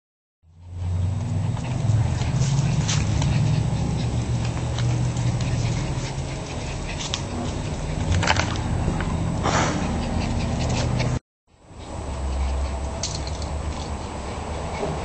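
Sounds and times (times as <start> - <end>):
steady low hum: 0.5 - 15.0.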